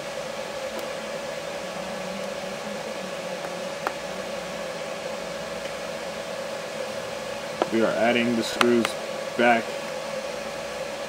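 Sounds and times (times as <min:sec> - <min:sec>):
fan hiss and hum: 0:00.0 - 0:11.0.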